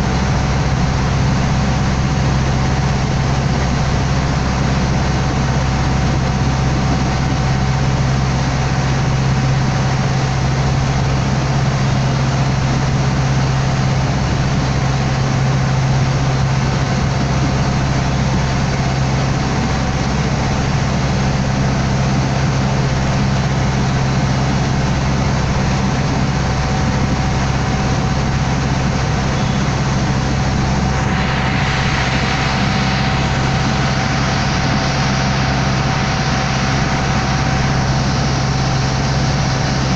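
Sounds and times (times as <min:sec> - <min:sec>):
boat engine humming: 0:00.0 - 0:39.9
faint engine whine: 0:00.0 - 0:39.9
water rushing along hull: 0:00.0 - 0:39.9.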